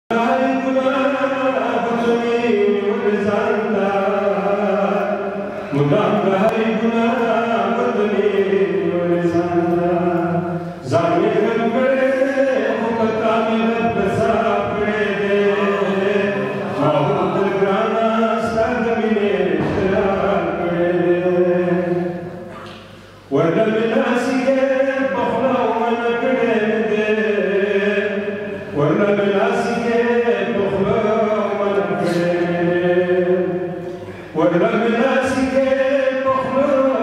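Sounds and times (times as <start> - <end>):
man chanting poetry: 0.1 - 37.0.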